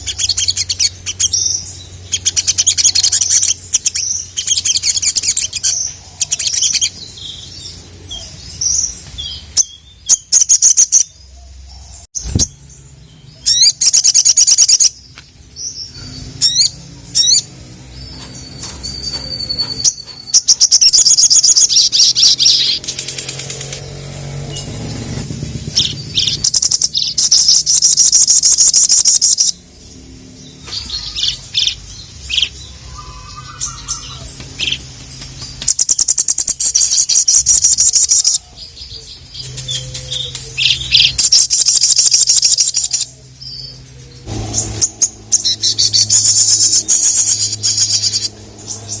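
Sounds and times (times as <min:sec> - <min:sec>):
bird chattering trills: 0:00.0 - 0:12.5, 0:15.6 - 0:49.0.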